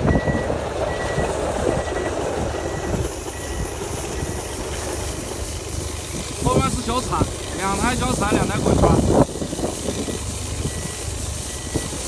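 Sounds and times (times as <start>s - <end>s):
vehicle reversing alarm beeps: 0.0s - 8.8s, 9.9s - 12.0s
low engine rumble: 0.0s - 12.0s.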